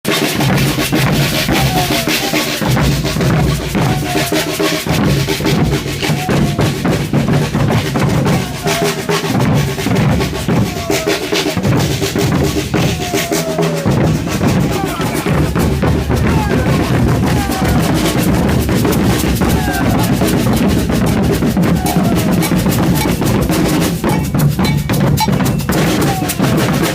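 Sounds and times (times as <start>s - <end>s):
percussion band drumming: 0.0s - 26.9s.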